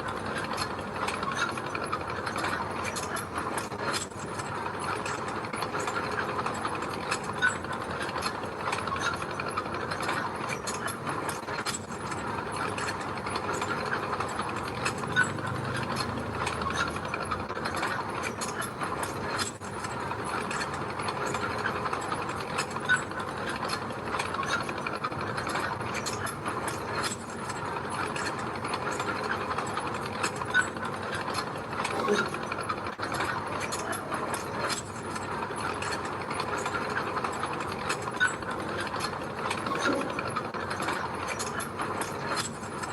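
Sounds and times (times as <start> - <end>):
mini bulldozer engine: 0.0 - 42.9.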